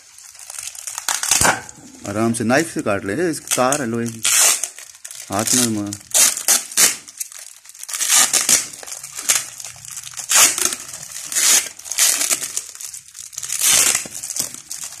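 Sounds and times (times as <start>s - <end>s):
plastic wrap crinkling and tearing: 0.0s - 15.0s.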